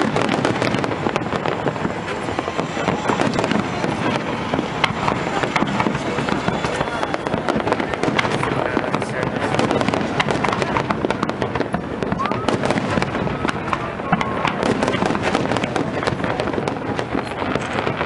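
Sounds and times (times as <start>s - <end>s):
firework shells bursting: 0.0s - 18.0s.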